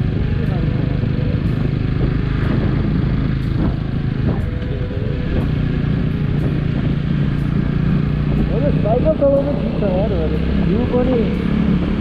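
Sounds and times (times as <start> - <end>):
motorcycle motor hum: 0.0 - 12.0
wind and road noise: 0.0 - 12.0.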